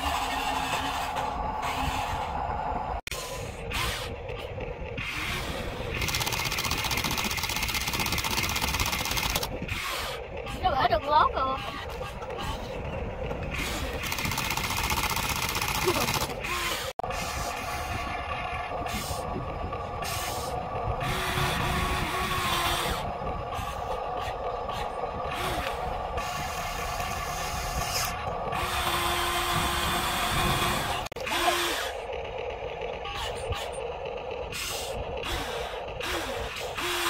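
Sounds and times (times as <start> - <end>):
electric motors whirring: 0.0 - 37.0.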